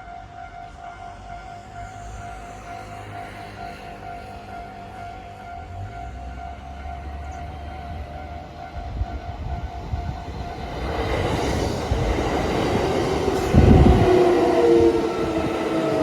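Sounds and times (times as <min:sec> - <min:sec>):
steady tones from train: 0:00.0 - 0:16.0
train rumbling: 0:00.0 - 0:16.0.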